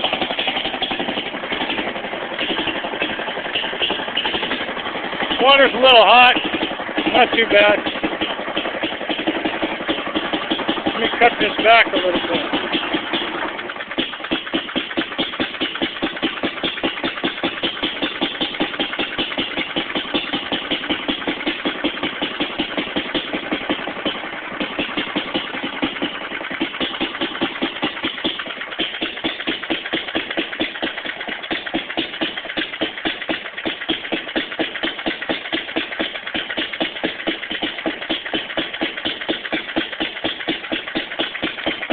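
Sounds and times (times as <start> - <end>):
stationary engine exhaust beats: 0.0 - 41.9.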